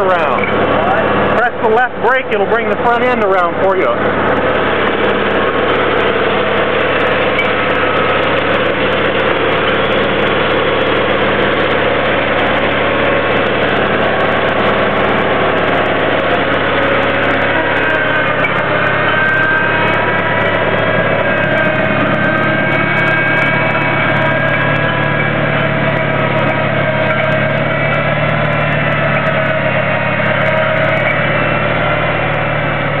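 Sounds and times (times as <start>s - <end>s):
garden tractor engine running: 0.0s - 33.0s.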